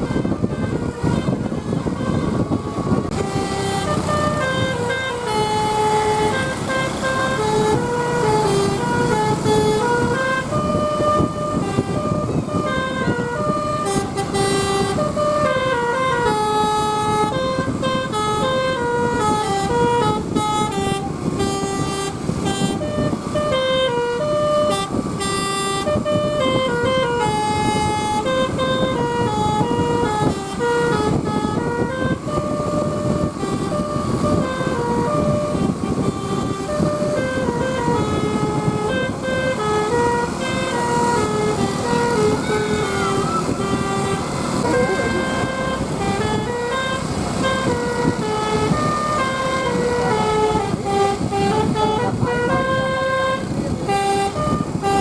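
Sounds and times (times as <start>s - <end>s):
bus engine and road noise: 0.0s - 55.0s
multi-tone air horn tune: 0.0s - 55.0s.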